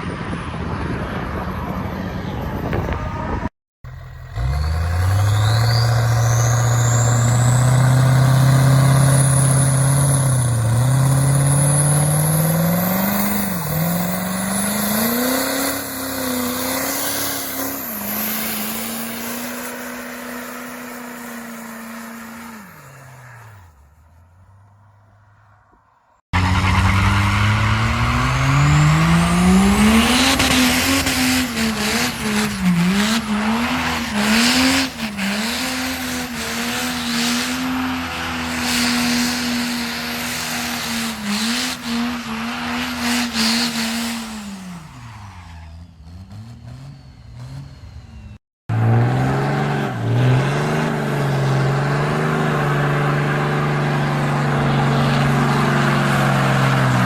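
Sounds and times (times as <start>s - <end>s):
diesel engine revving: 2.4s - 25.0s, 26.3s - 57.0s.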